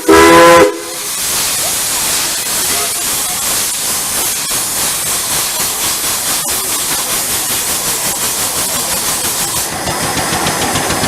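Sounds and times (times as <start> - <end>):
steam engine hissing: 0.0 - 11.0.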